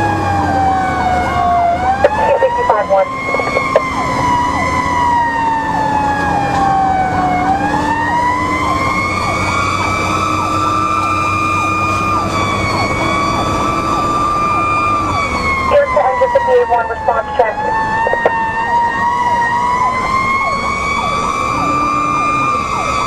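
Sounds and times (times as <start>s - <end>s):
fire engine siren wailing: 0.0s - 23.0s.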